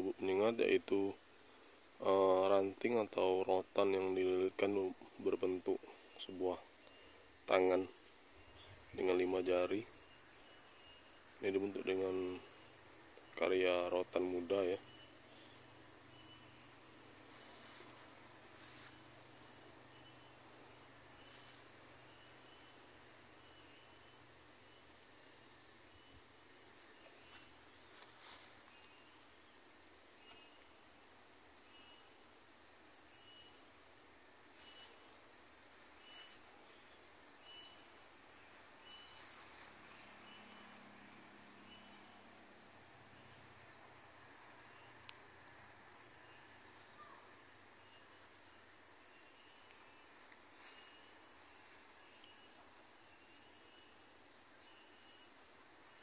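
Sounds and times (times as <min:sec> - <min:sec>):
insect chirp: 0:00.0 - 0:56.0
insect drone: 0:00.0 - 0:56.0.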